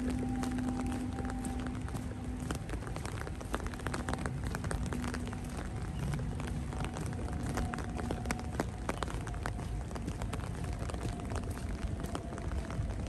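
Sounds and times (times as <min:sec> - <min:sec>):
faint steady hum: 0:00.0 - 0:13.0
rain drops clicking: 0:00.0 - 0:13.0.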